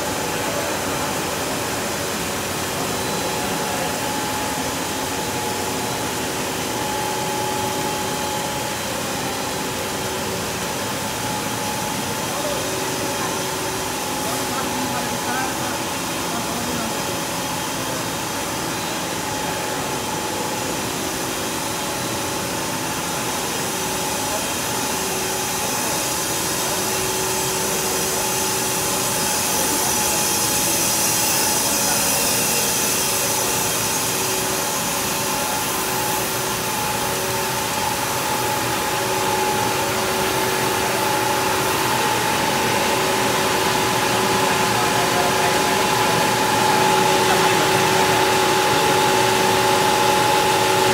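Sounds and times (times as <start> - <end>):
machinery hum: 0.0 - 50.9
steady machine tones: 0.0 - 50.9
steam hiss: 0.0 - 50.9.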